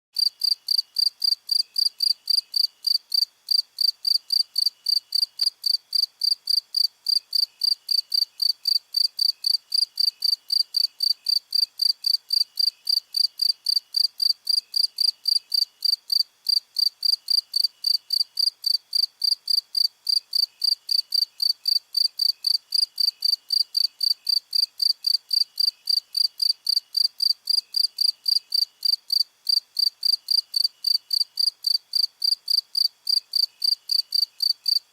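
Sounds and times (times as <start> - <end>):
crickets chirping: 0.2 - 34.9
faint insect trilling: 0.2 - 34.9.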